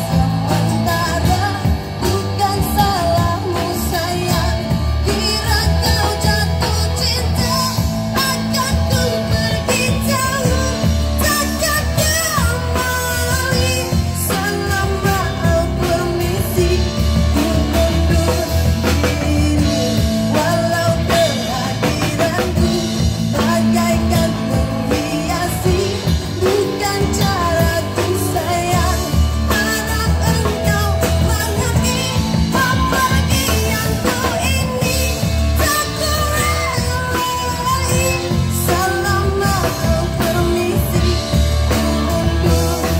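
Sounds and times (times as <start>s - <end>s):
drum kit: 0.0s - 42.9s
electric guitar: 0.0s - 42.9s
woman singing: 0.0s - 42.9s.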